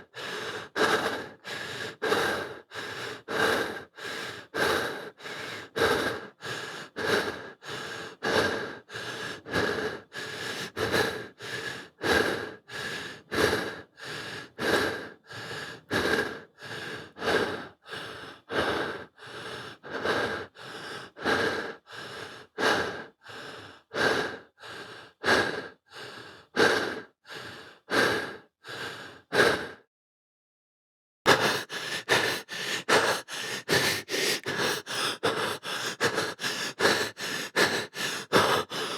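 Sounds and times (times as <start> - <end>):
person breathing: 0.0 - 29.9, 31.3 - 38.9.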